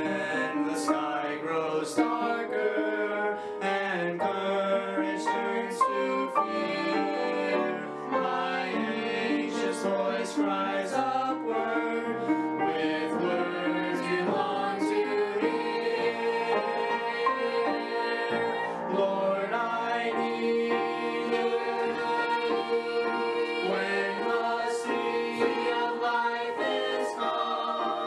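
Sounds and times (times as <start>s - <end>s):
group singing in parts: 0.0s - 28.0s.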